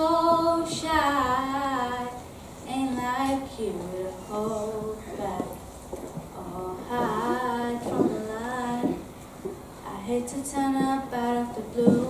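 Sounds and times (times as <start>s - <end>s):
girl singing: 0.0s - 5.6s, 6.3s - 9.1s, 9.8s - 12.0s.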